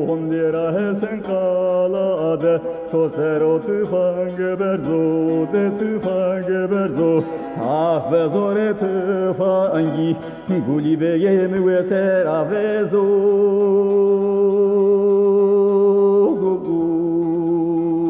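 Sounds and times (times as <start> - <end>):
man singing folk song: 0.0 - 18.0.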